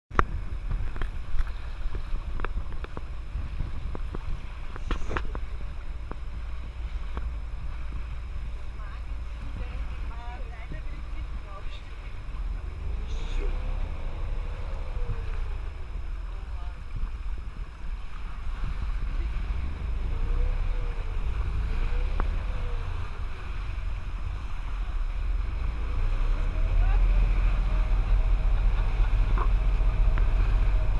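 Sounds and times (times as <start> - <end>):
boat engine rumble: 0.1 - 30.9
water rushing along hull: 0.1 - 30.9
wind buffeting microphone: 0.1 - 30.9.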